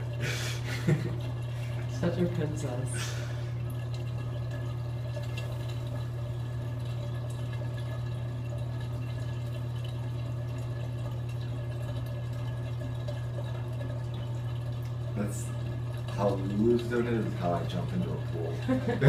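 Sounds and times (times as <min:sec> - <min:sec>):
steady low hum: 0:00.0 - 0:19.0
water running into bathtub: 0:00.0 - 0:19.0.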